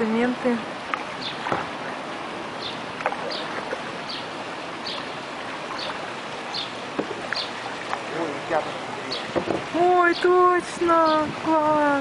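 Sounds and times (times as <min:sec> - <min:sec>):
water rushing down cascade: 0:00.0 - 0:12.0.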